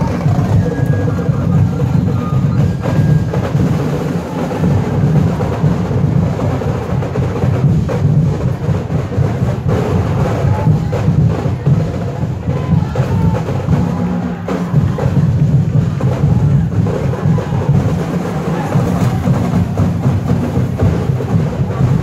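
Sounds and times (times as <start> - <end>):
bass drums beating: 0.0 - 22.0
percussion ensemble drumming: 0.0 - 22.0.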